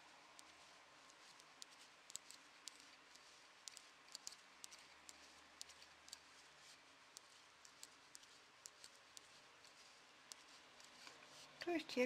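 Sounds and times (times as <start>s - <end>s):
knitting needles clicking: 0.0s - 12.0s
quiet hiss: 0.0s - 12.0s.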